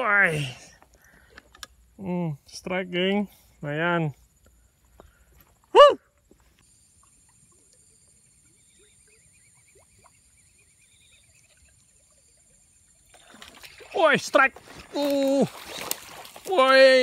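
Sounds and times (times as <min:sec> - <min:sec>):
rapid insect chirping: 0:00.0 - 0:17.0.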